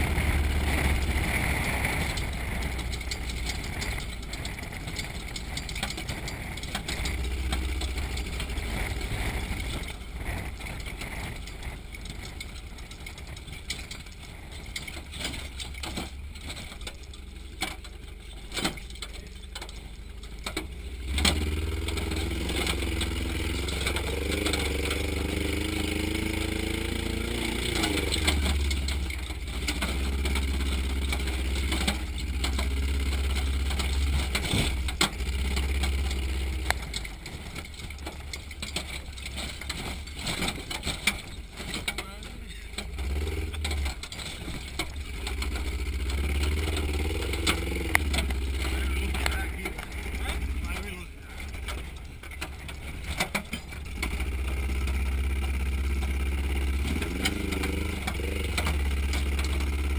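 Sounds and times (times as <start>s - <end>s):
chassis knocks and rattles: 0.0s - 59.9s
truck engine revving: 0.0s - 59.9s.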